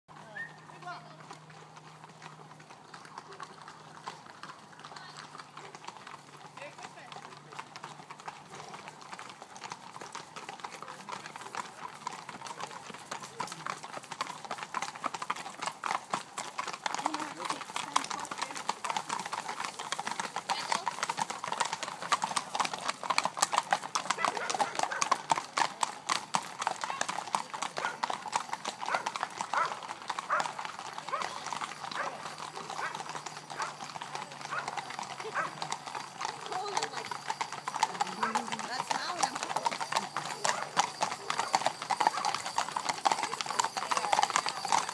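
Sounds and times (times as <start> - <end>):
hooves clip-clopping on pavement: 0.1 - 44.9.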